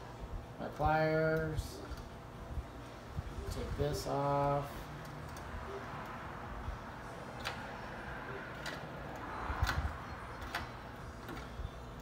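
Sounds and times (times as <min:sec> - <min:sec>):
workshop room noise: 0:00.0 - 0:12.0.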